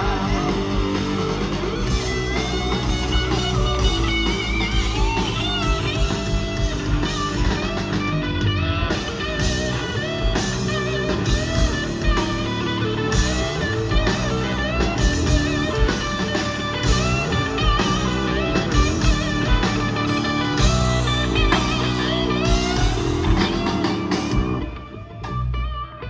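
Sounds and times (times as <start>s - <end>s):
bass guitar: 0.0s - 26.0s
drums: 0.0s - 26.0s
electric guitar solo: 0.0s - 26.0s.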